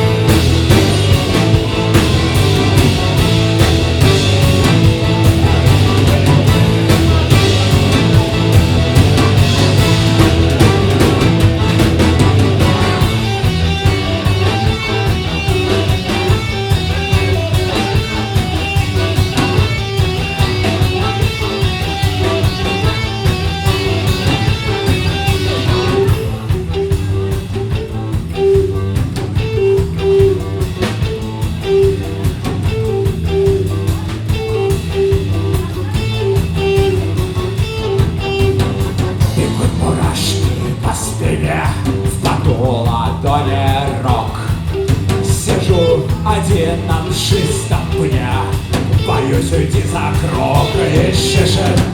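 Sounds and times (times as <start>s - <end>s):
bass guitar: 0.0s - 51.9s
drum kit: 0.0s - 51.9s
electric guitar: 0.0s - 51.9s.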